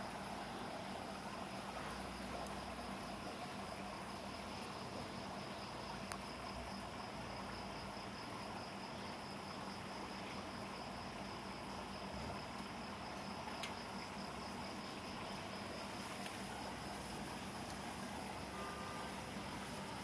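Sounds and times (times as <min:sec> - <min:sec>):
crickets trilling: 0:00.0 - 0:20.0
low steady hum: 0:00.0 - 0:20.0.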